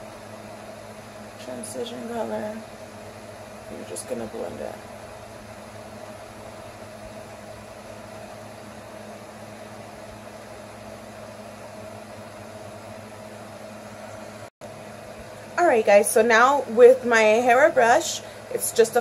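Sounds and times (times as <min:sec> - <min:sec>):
low constant hum: 0:00.0 - 0:19.0
room tone hiss: 0:00.0 - 0:19.0.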